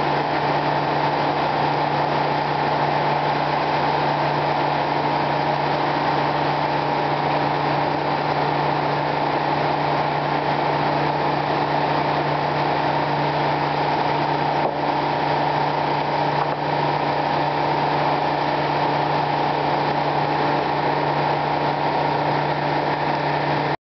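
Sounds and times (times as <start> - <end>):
sawmill machinery droning: 0.0 - 23.8.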